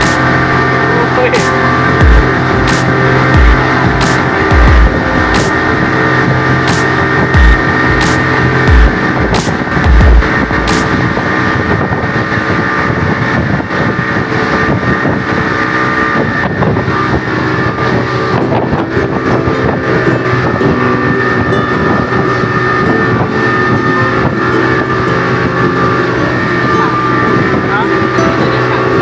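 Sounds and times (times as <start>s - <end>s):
motorboat engine running: 0.0s - 29.0s.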